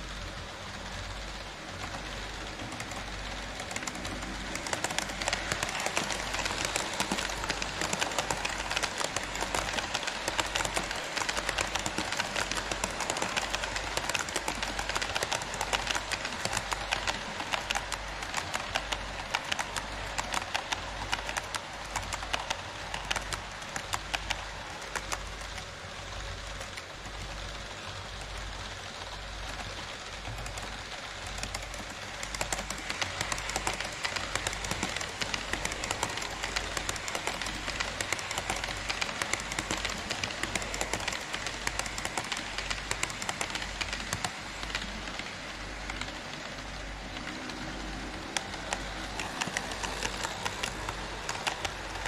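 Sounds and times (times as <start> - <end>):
model train wheels clicking: 0.0 - 52.0.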